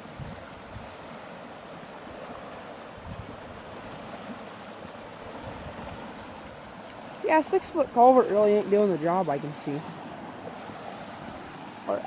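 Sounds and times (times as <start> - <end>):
floodwater rushing through culvert: 0.0 - 12.0
wind rumble on microphone: 0.0 - 12.0.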